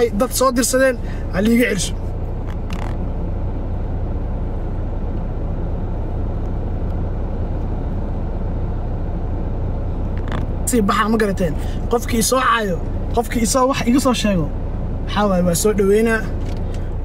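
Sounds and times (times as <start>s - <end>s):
car engine hum inside cabin: 0.0s - 17.0s.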